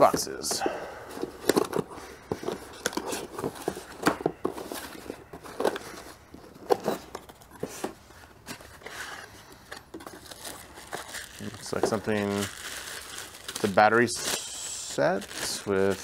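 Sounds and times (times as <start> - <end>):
cardboard boxes being handled: 0.0 - 13.6.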